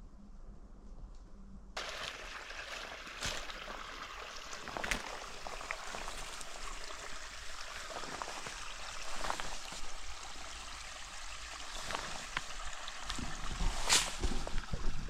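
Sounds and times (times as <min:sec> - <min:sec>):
mountain stream rushing: 0:01.8 - 0:15.0.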